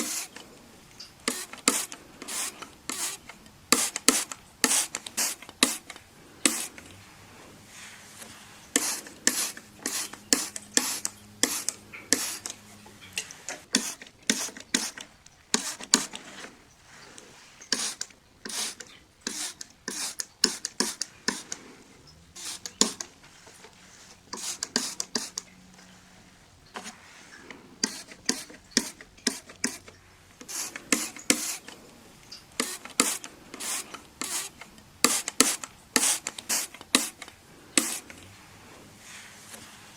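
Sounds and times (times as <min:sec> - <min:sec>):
rubbing strokes on window glass: 0:00.0 - 0:39.9.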